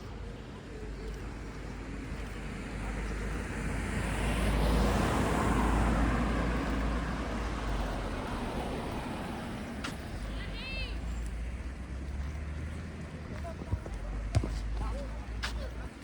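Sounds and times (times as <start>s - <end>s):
vehicle driving past: 0.8s - 15.4s.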